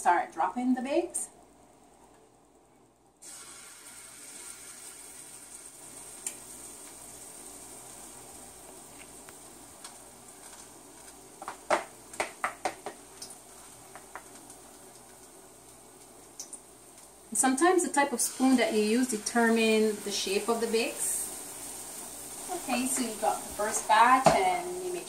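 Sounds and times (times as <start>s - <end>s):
batter sizzling in hot oil: 3.2s - 25.0s.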